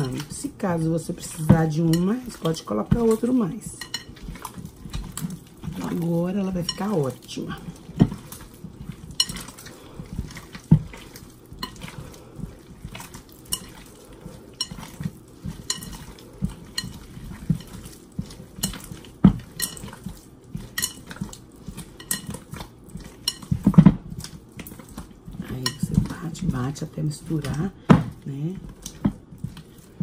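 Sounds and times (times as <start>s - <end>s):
dough slapping and squelching: 0.0s - 30.0s.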